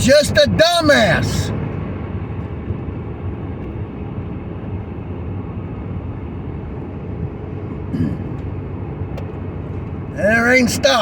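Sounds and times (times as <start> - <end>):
car driving on wet road: 0.0 - 11.0.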